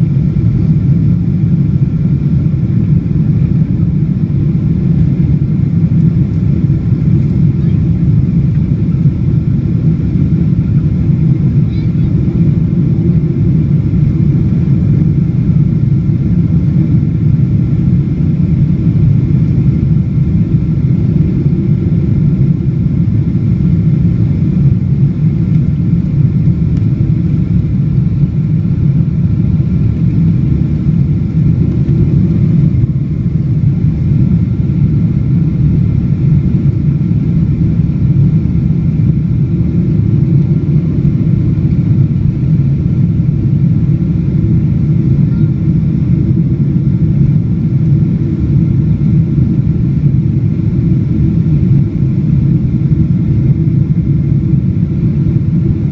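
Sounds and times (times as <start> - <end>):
airplane cabin engine rumble: 0.0 - 55.9
faint high whine: 0.0 - 55.9.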